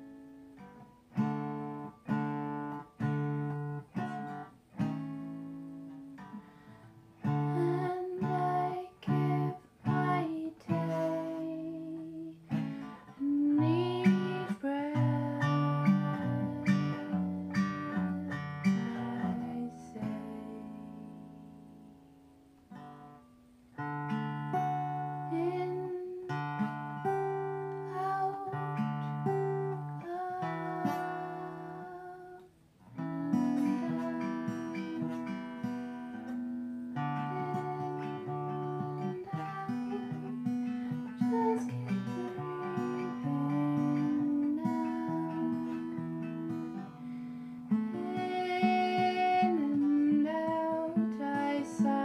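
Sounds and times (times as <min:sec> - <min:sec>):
acoustic guitar strumming: 0:00.0 - 0:52.0.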